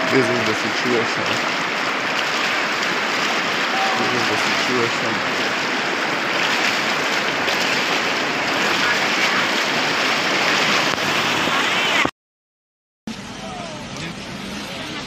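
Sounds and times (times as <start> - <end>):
floodwater rushing: 0.0 - 12.1, 13.1 - 15.0.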